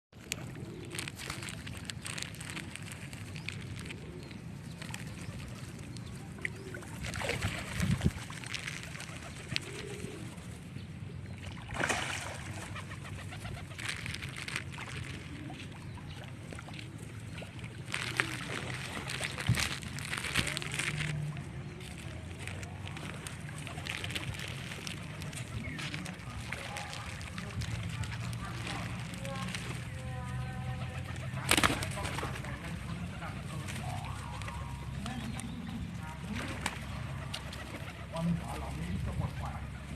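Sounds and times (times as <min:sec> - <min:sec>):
birds calling: 0:00.2 - 0:39.9.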